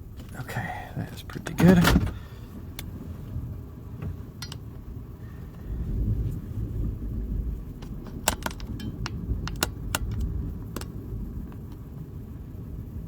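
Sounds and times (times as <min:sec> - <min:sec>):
low rumble of rain: 0:00.0 - 0:13.0.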